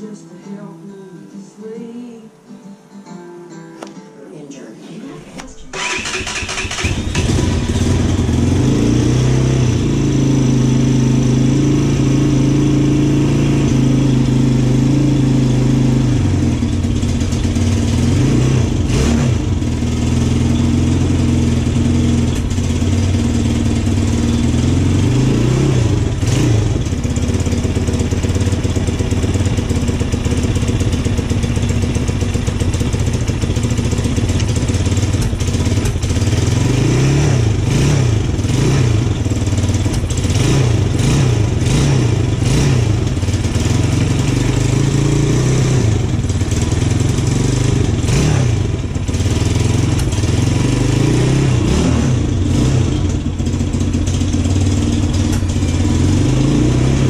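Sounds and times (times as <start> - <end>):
atv engine idling and revving: 5.8 - 57.0.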